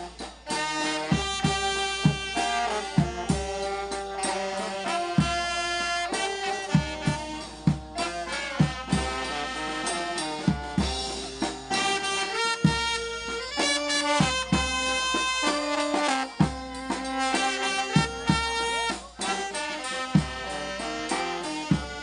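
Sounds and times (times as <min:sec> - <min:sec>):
bass drum and snare strikes: 0:00.0 - 0:04.4, 0:05.1 - 0:20.5
brass band playing: 0:00.0 - 0:22.0.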